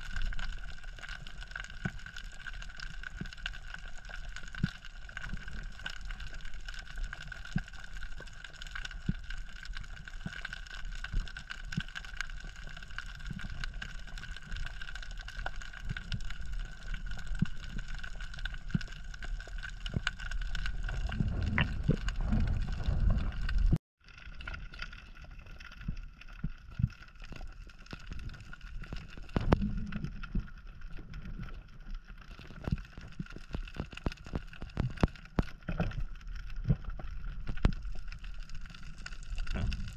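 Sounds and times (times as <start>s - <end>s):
small clicks and crackles: 0.0s - 39.9s
underwater rumble of moving water: 0.0s - 39.9s.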